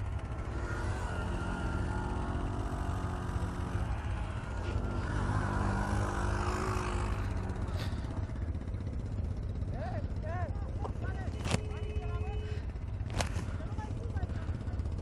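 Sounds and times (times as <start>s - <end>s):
atv engine rumbling: 0.0s - 15.0s.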